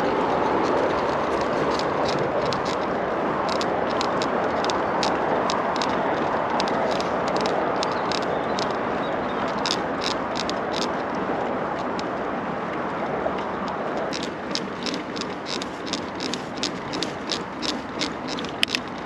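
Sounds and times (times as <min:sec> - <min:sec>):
sharp ticks and rattles: 0:00.0 - 0:11.2, 0:13.4 - 0:19.0
bicycle tyre noise: 0:00.0 - 0:19.0
wind on microphone: 0:00.0 - 0:19.0.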